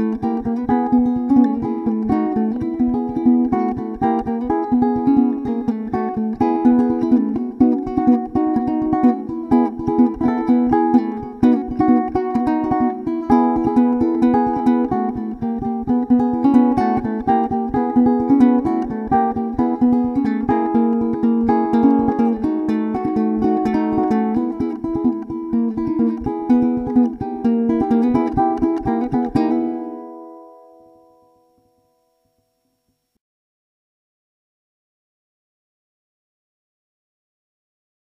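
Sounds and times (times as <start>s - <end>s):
fingerpicked ukulele: 0.0s - 32.4s.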